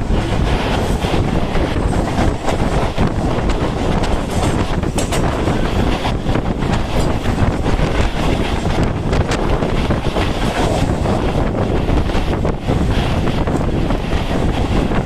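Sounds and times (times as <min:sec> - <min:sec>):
sharp clicks of train wheels: 0:00.0 - 0:15.0
train wheels rumbling on track: 0:00.0 - 0:15.0
wind buffeting microphone: 0:00.0 - 0:15.0.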